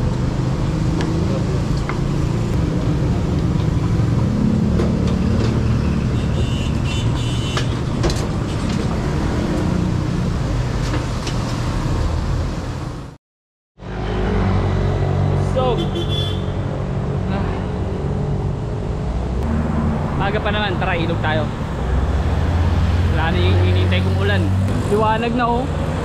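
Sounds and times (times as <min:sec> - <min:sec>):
road traffic noise: 0:00.0 - 0:13.2, 0:13.8 - 0:26.0.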